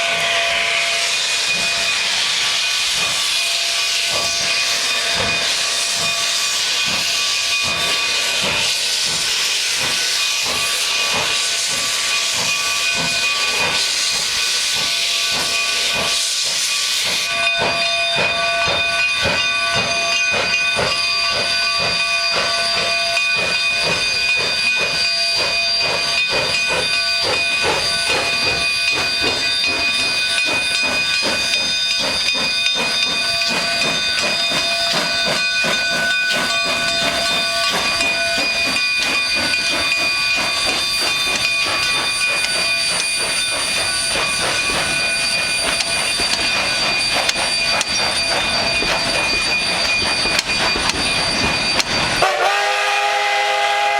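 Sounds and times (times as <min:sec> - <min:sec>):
locomotive exhaust chuffs: 0:00.0 - 0:53.9
steam hissing: 0:00.0 - 0:53.9.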